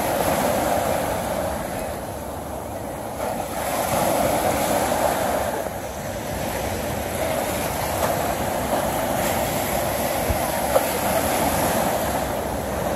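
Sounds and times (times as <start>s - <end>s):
small waves washing on sand: 0.0s - 12.9s.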